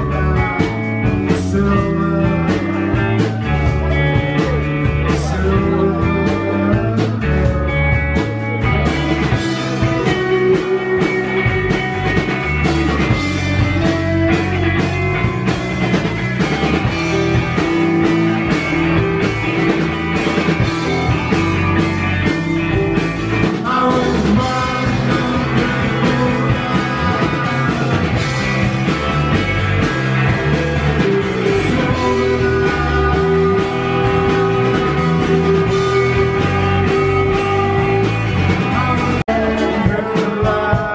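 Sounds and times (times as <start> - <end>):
bass guitar: 0.0 - 40.9
drums: 0.0 - 40.9
electric guitars: 0.0 - 40.9.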